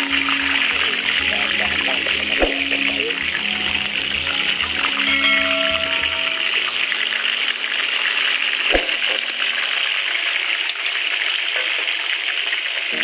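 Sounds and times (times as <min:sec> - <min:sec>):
deep-frying sizzle in oil: 0:00.0 - 0:13.0.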